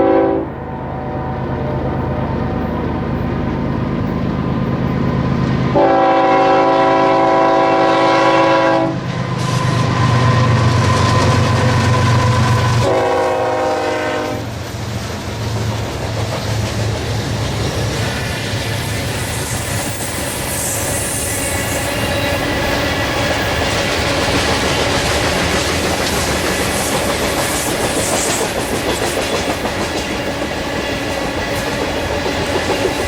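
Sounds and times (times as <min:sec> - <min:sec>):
locomotive engines droning: 0:00.0 - 0:33.0.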